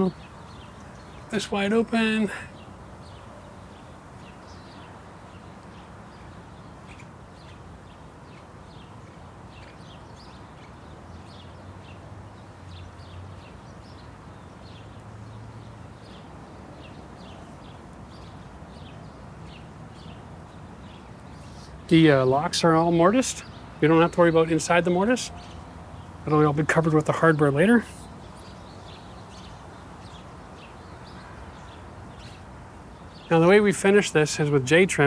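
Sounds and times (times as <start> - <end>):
small bird chirping: 0.0 - 33.5
low outdoor noise: 0.0 - 35.0.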